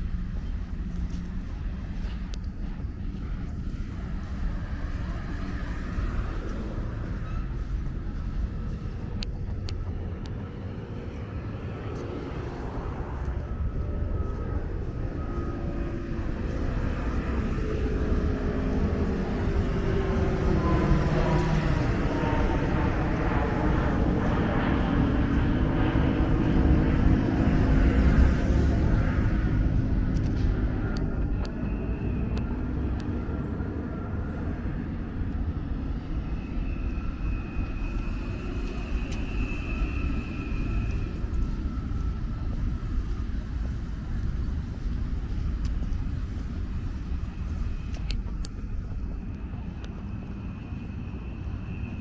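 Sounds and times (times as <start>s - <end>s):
airplane passing overhead: 0.0s - 52.0s.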